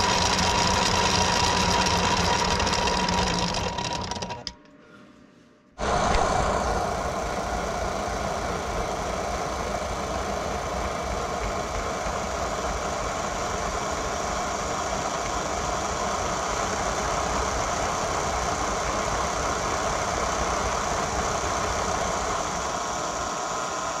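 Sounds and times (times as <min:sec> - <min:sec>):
model locomotive running noise: 0:00.0 - 0:04.6, 0:05.8 - 0:24.0.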